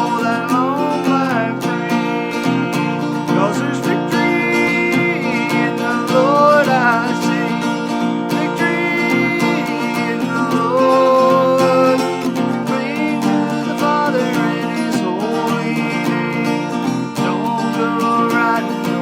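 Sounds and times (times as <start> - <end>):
acoustic guitar strumming: 0.0 - 19.0
person singing: 0.0 - 19.0.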